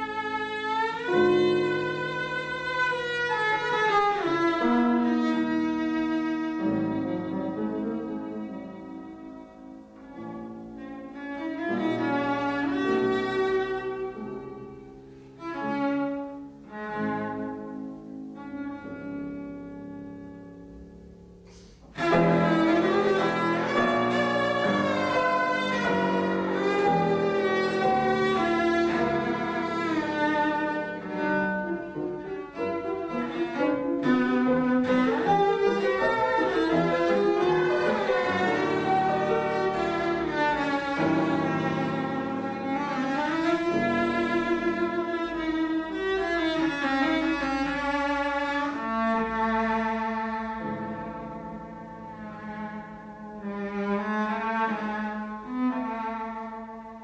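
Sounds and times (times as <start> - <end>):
cello played with bow: 0.0 - 57.0.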